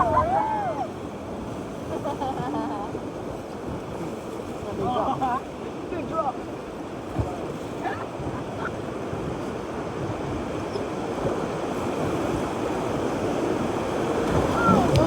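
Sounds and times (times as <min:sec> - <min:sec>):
whitewater rapids rushing: 0:00.0 - 0:15.0.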